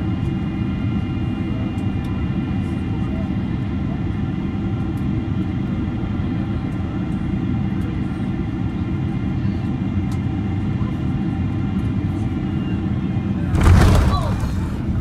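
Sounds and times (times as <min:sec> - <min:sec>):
jet engine whine: 0:00.0 - 0:15.0
low rumble of airflow and engines: 0:00.0 - 0:15.0.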